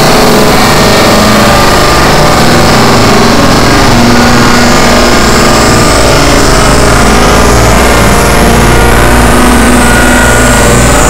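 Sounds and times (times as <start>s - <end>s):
noise drone music: 0.0s - 11.0s.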